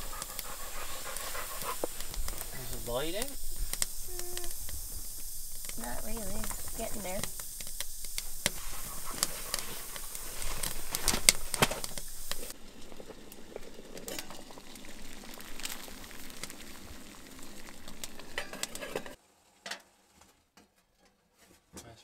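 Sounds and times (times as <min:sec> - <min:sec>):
kindling crackling and popping: 0:00.0 - 0:19.2.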